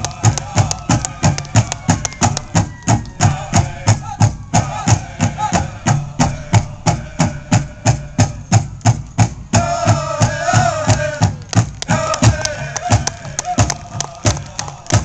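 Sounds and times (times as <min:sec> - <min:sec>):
big drum beating: 0:00.0 - 0:15.0
group singing: 0:00.0 - 0:15.0.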